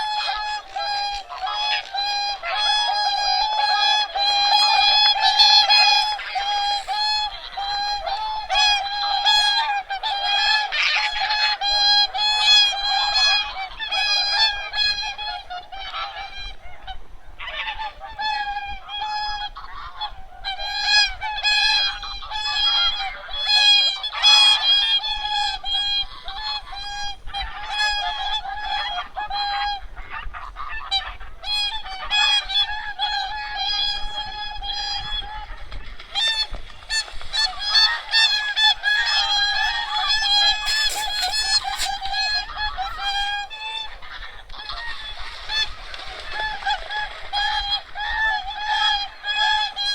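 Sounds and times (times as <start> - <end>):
geese and swans honking: 0.0 - 49.9.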